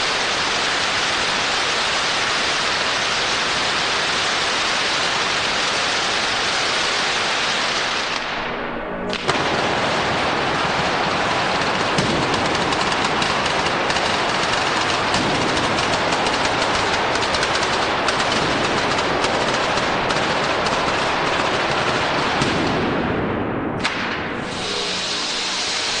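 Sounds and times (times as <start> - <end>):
firecrackers banging and crackling: 0.0 - 26.0.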